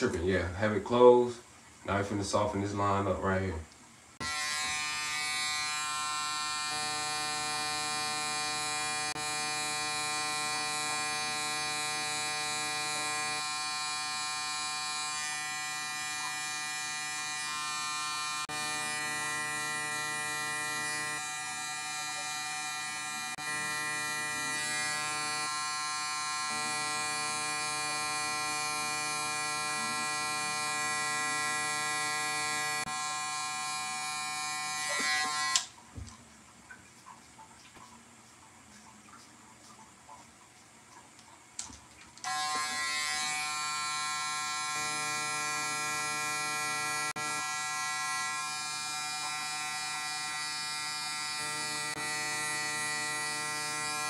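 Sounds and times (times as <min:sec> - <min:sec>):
electric hair clippers buzzing: 0:04.2 - 0:35.7, 0:42.2 - 0:54.0.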